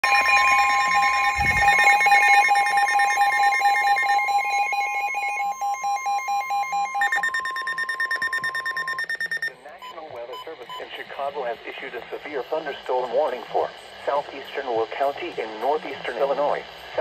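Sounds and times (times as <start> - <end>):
rapid electronic alarm beeping: 0.0 - 17.0
steady weather alert tone: 0.0 - 17.0.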